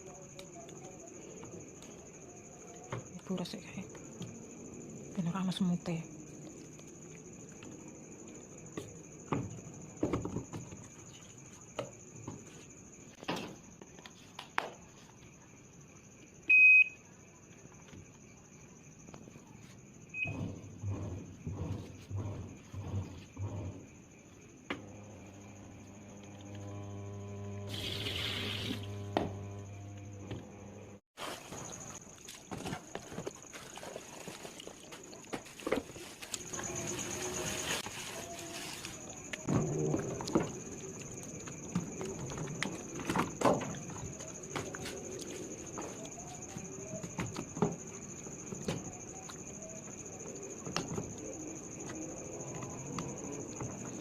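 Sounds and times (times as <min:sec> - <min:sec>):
washing machine electrical hum: 0:00.0 - 0:54.0.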